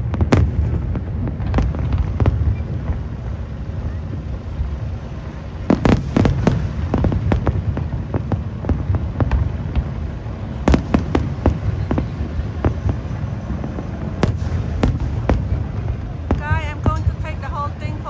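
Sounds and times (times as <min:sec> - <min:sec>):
fireworks bangs and cracks: 0:00.0 - 0:18.0.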